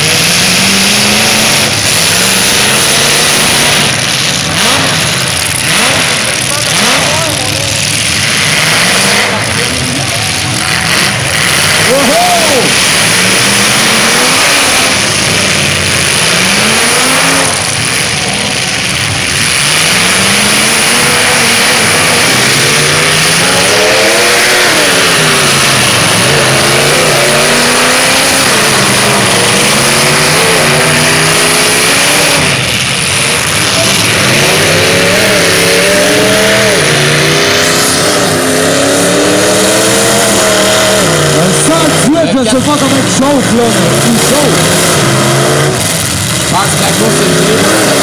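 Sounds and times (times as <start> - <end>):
car engines revving hard: 0.0 - 48.0.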